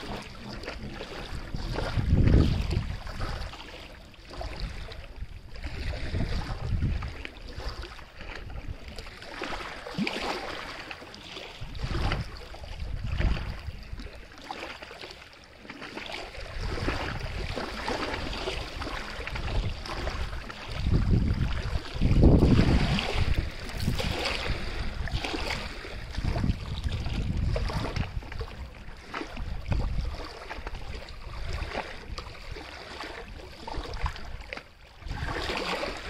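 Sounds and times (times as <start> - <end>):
wind gusts on microphone: 0.0 - 3.7, 4.3 - 9.6, 11.5 - 14.2, 16.4 - 36.0
water swishing and lapping: 0.0 - 36.0.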